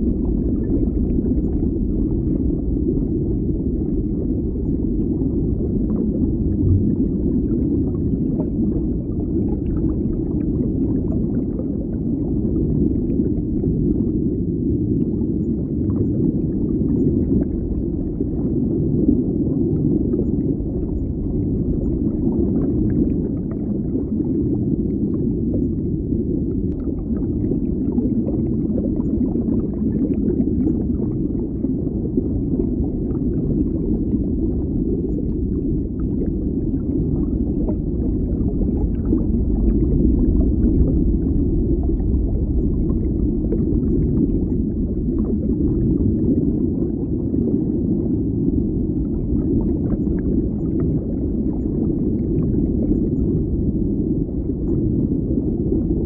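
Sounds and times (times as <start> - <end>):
muffled underwater rumble: 0.0 - 56.0.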